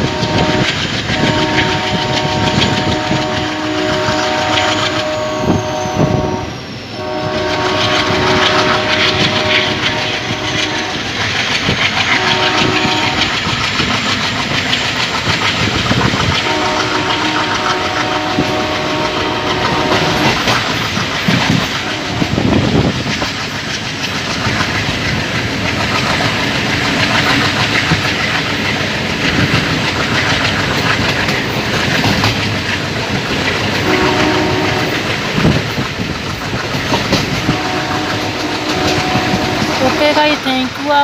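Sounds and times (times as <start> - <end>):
diesel locomotive engine hum: 0.0 - 41.0
train rushing noise: 0.0 - 41.0
wheels clacking over rail joints: 0.0 - 41.0.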